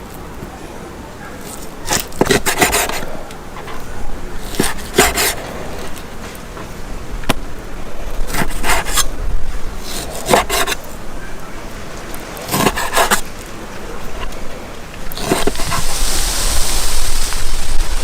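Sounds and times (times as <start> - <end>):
rasping scraping: 1.2 - 18.0.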